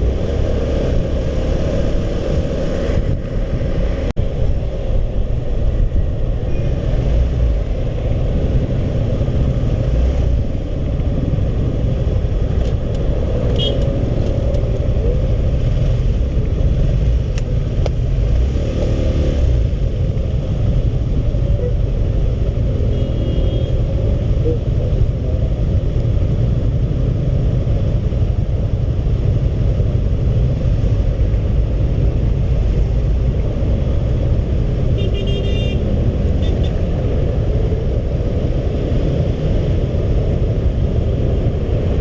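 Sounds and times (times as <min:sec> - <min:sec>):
road and wind rumble: 0:00.0 - 0:42.0.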